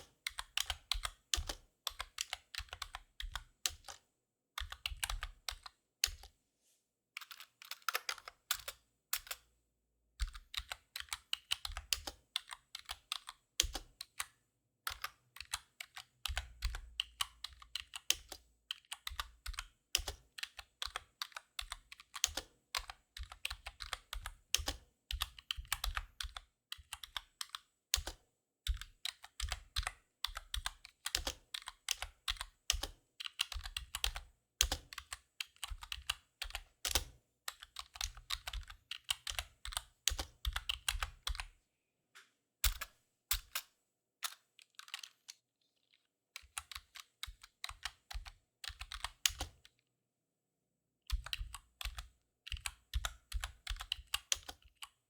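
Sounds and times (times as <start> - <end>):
computer keyboard typing: 0.3 - 4.0, 4.6 - 6.3, 7.2 - 9.4, 10.2 - 41.5, 44.7 - 45.3, 46.4 - 49.6, 51.1 - 55.0.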